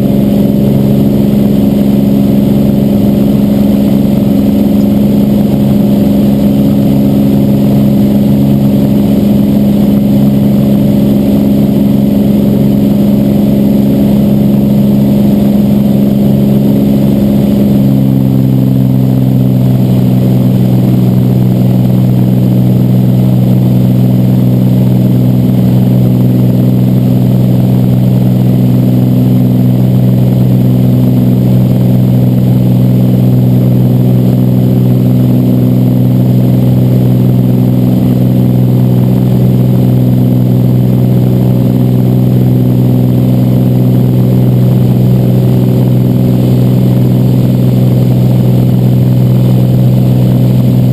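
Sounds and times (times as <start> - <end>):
light aircraft engine drone in cabin: 0.0 - 50.9.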